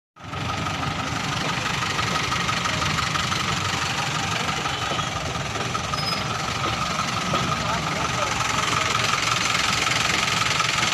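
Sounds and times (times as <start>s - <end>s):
train wheels rumbling on rails: 0.2s - 10.9s.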